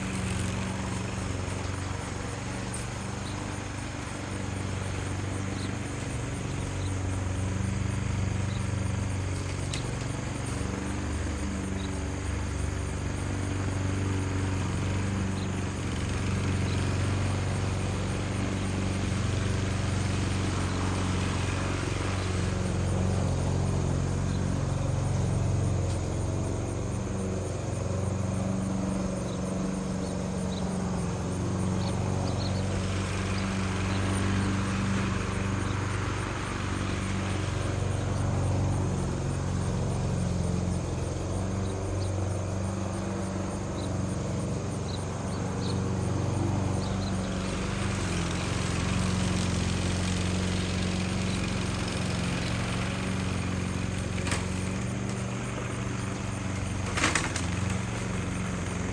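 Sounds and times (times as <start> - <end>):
small engine running: 0.0 - 58.9.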